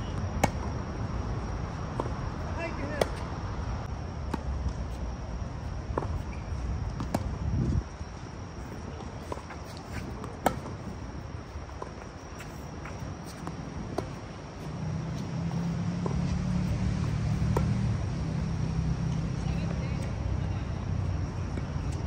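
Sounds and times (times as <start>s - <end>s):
tennis balls hit and bouncing: 0.0s - 3.4s, 5.8s - 7.5s, 8.7s - 22.0s.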